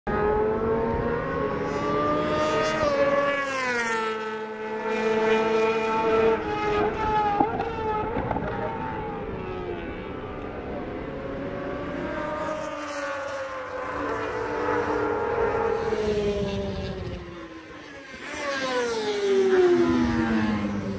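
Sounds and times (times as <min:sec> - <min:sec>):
motorcycle race engines revving: 0:00.1 - 0:20.9.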